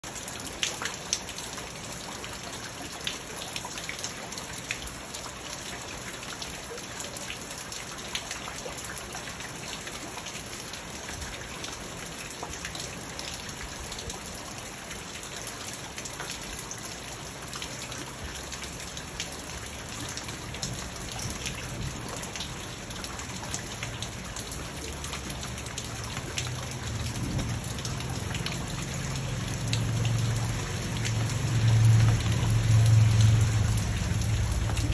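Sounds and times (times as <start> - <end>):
rain falling on pond: 0.0 - 34.9.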